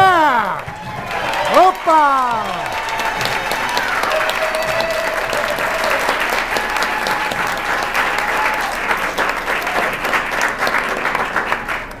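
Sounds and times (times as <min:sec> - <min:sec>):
voices cheering: 0:00.0 - 0:10.2
audience clapping: 0:00.1 - 0:12.0.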